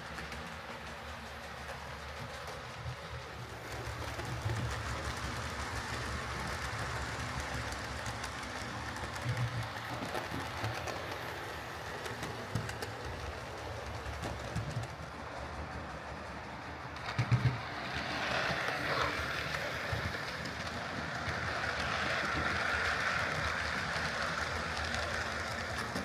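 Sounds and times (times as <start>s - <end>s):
model train motor hum: 0.0s - 26.0s
wheels clicking over rails: 0.0s - 26.0s.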